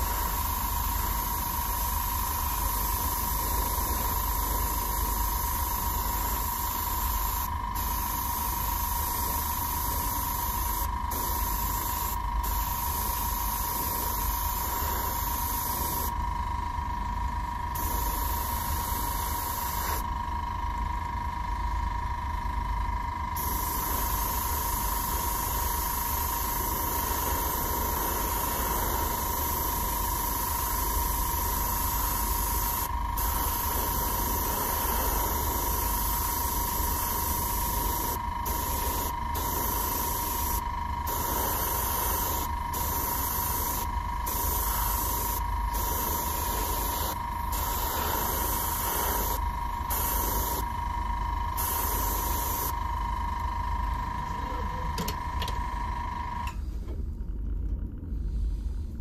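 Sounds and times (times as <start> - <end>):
airbrush hissing: 0.0 - 16.3, 17.7 - 20.1, 23.3 - 52.8
steady low hum: 0.0 - 59.0.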